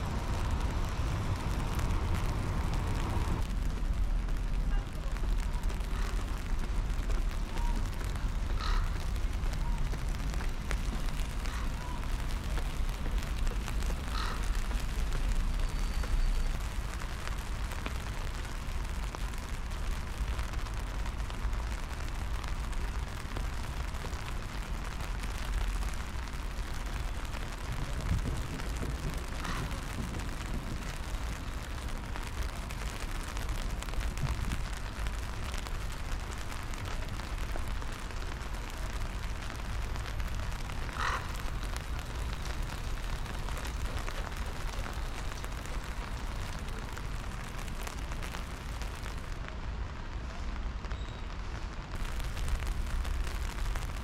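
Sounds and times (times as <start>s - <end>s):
wind rumble on microphone: 0.0s - 51.0s
light rain hiss: 0.0s - 54.0s.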